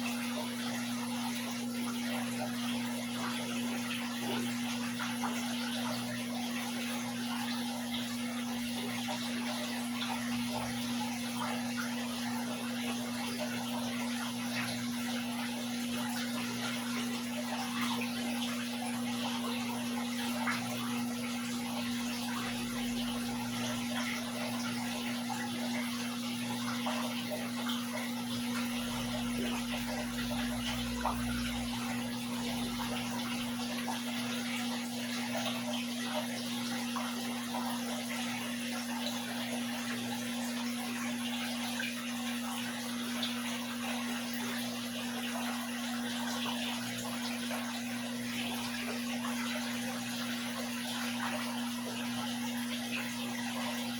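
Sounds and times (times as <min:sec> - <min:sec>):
aquarium water trickling: 0:00.0 - 0:53.9.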